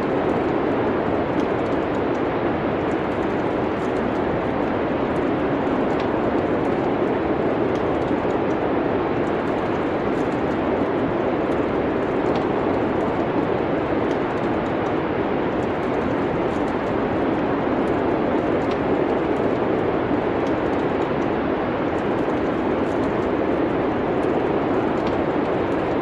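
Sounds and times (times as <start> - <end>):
fireplace fire crackles: 0.0 - 26.0.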